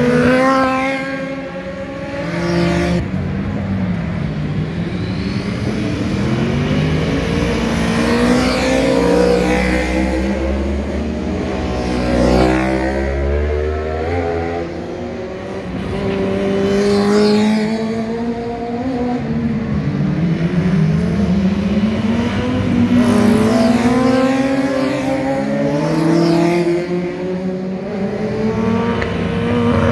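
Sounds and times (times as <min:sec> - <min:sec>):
racing motorcycle engines revving: 0:00.0 - 0:29.9.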